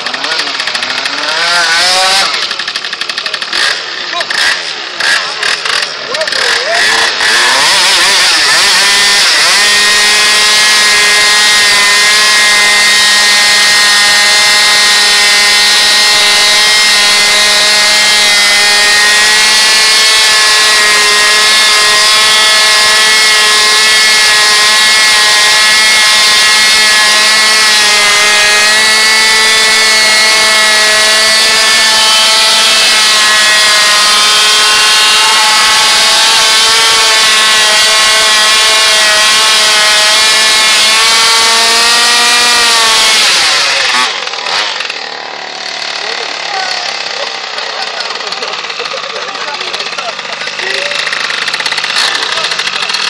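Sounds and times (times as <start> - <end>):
moped engine revving high: 0.0 - 53.0.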